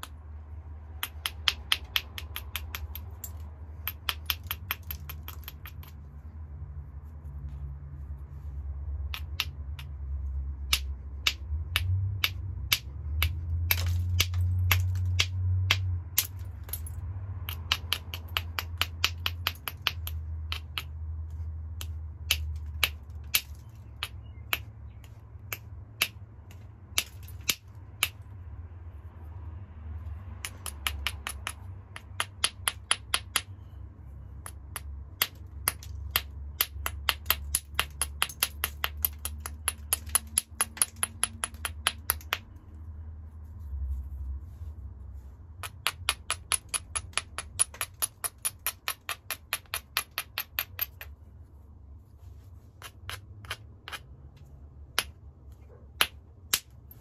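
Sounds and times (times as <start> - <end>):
stone tapping on stone: 0.9 - 6.0, 9.0 - 28.3, 30.4 - 33.7, 34.3 - 42.7, 45.2 - 51.2, 52.8 - 57.0.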